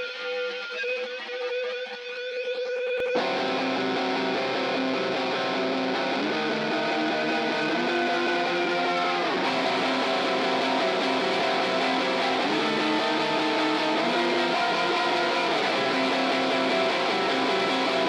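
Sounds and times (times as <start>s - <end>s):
instrumental rock guitar chords: 0.0s - 18.0s.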